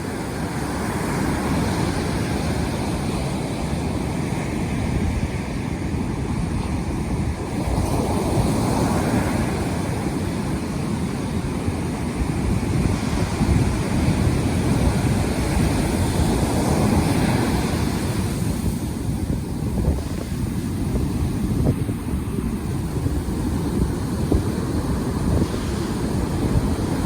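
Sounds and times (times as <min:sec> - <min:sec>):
heavy surf breaking on shore: 0:00.0 - 0:27.0
wind buffeting microphone: 0:00.0 - 0:27.0.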